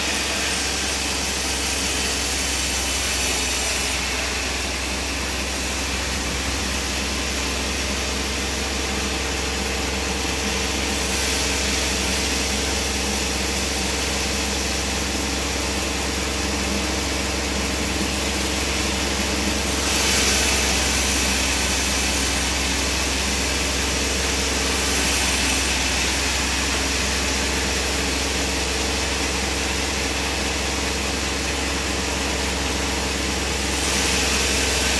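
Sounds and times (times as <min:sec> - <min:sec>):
band saw running: 0:00.0 - 0:34.9.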